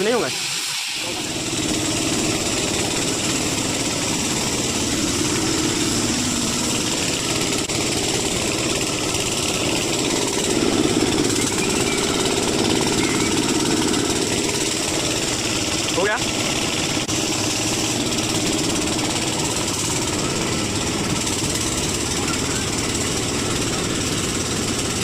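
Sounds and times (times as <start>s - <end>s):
machine running steadily: 0.0s - 25.0s.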